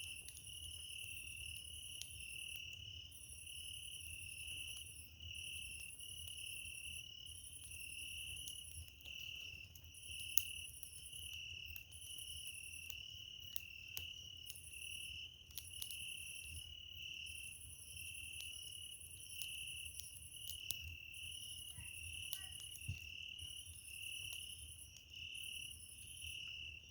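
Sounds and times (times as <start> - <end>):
campfire wood crackling: 0.0 - 26.9
crickets chirping: 0.0 - 26.9.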